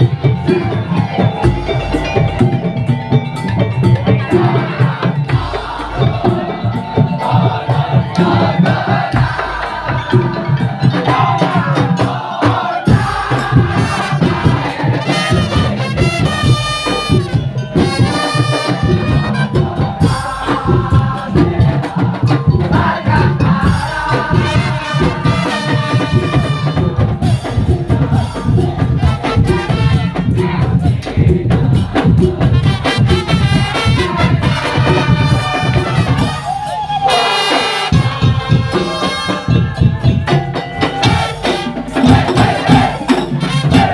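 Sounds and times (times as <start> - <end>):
bamboo slit drums and drums: 0.0 - 43.9
pitched melody line: 0.0 - 43.9.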